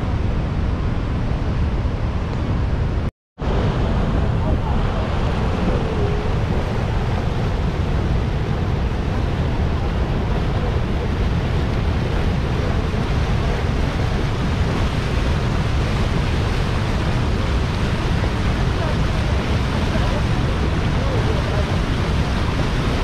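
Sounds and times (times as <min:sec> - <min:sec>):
waterfall rushing: 0:03.4 - 0:23.0.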